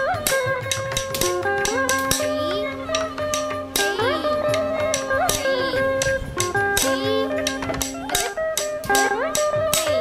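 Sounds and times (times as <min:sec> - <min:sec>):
gliding melody: 0:00.0 - 0:10.0
sharp percussive strikes: 0:00.0 - 0:10.0.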